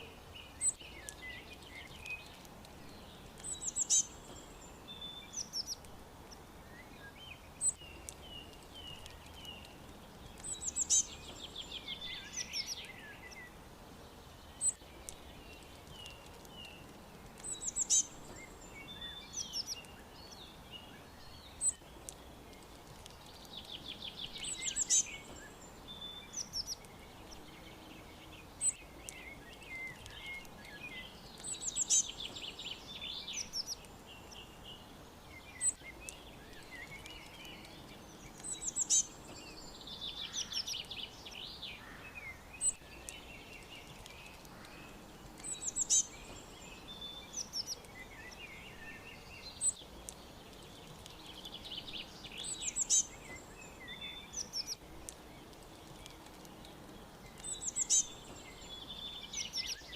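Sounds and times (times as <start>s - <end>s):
faint background hiss: 0.0s - 59.9s
songbirds chirping and singing: 0.0s - 59.9s.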